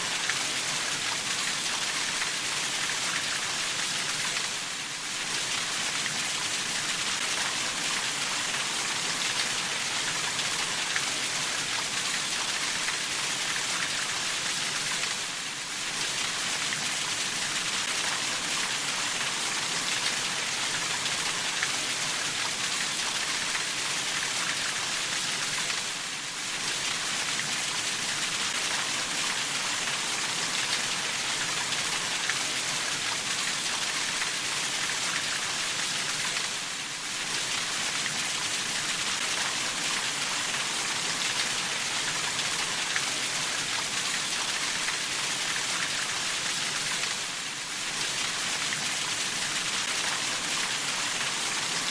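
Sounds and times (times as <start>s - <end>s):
steady rainfall hiss: 0.0s - 51.9s.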